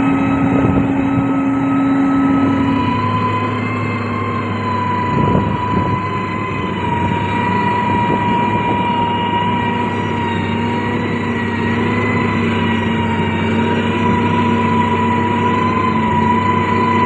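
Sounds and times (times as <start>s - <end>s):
diesel engine running under load: 0.0s - 17.0s
high-pitched whine: 0.0s - 17.0s.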